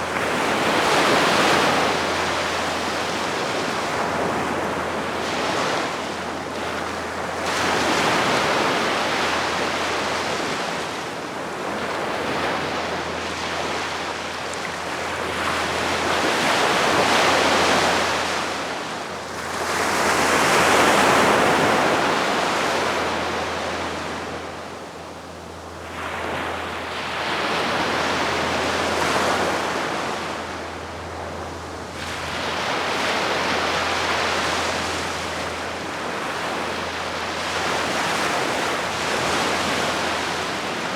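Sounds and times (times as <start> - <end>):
sea waves breaking gently: 0.0 - 40.9
steady low hum: 0.0 - 40.9.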